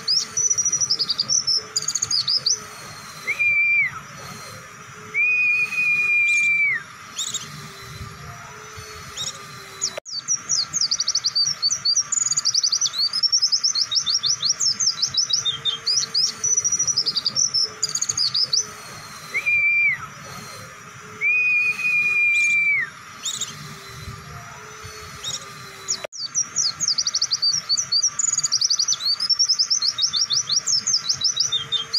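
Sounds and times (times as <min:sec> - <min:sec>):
bird whistles: 0:00.0 - 0:08.1, 0:08.7 - 0:31.9
bird twittering: 0:00.0 - 0:31.9.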